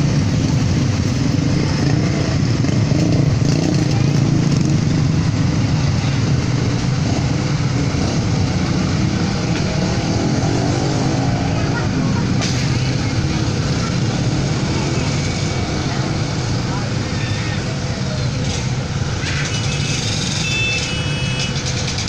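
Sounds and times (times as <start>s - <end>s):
motorcycle engines idling: 0.0s - 22.0s.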